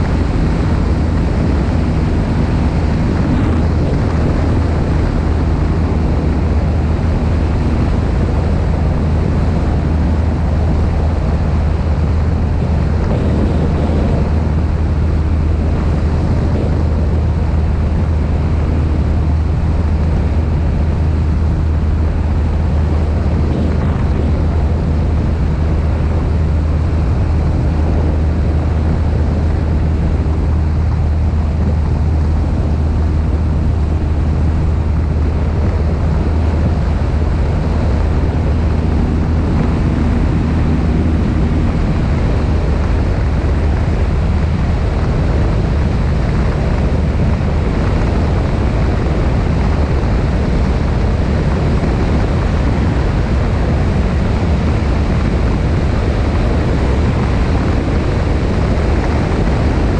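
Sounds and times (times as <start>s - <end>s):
propeller plane engine droning: 0.0s - 59.9s
wind rushing over microphone: 0.0s - 59.9s.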